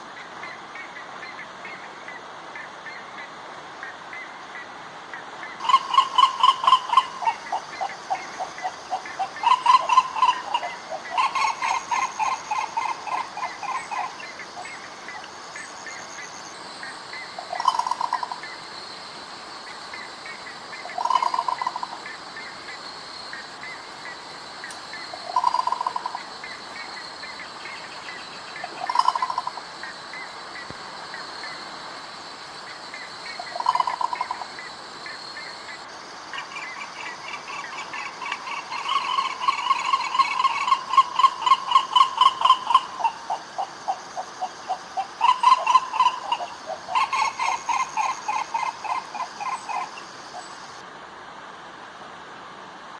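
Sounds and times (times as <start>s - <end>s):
ibis calls: 0.0s - 19.0s, 19.6s - 31.7s, 32.6s - 50.8s.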